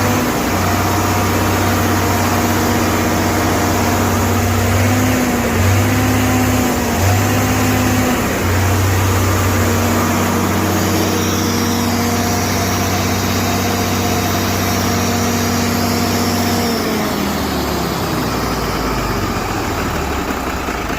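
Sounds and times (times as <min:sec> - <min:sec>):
engine running on test bench: 0:00.0 - 0:20.9.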